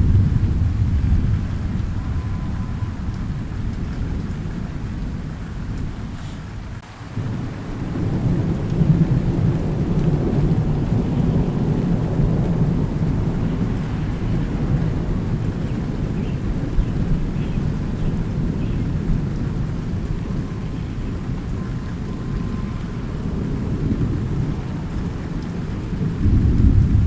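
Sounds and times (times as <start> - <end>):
rolling thunder: 0.0 - 27.0
steady rain: 0.0 - 27.0.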